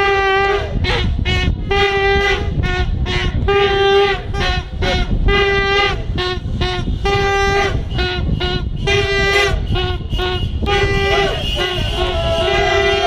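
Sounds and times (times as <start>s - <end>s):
plastic horns tooting: 0.0s - 13.0s.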